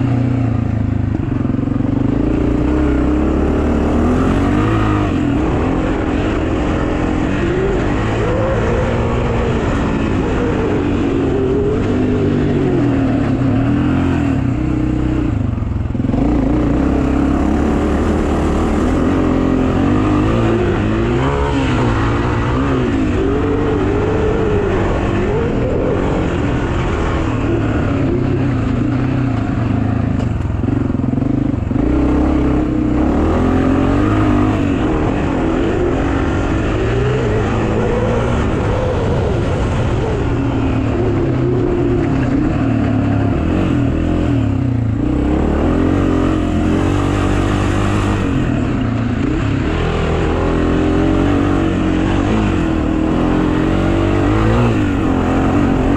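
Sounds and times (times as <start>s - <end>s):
pit bike engine revving: 0.0s - 55.9s.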